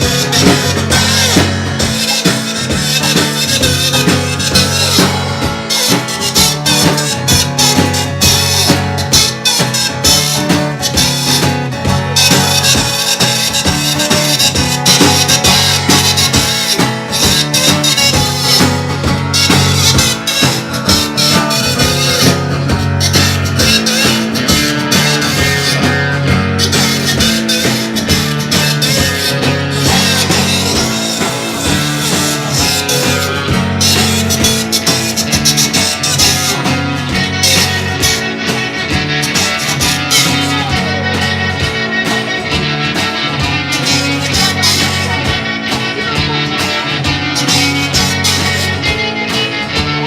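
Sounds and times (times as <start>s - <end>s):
bass line: 0.0s - 50.0s
drums: 0.0s - 50.0s
electric guitar: 0.0s - 50.0s.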